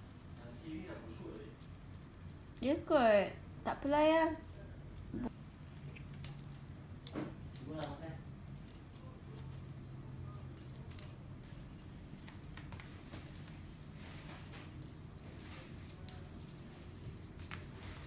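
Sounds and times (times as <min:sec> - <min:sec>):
small bell jingling: 0:00.0 - 0:02.9, 0:03.7 - 0:18.0.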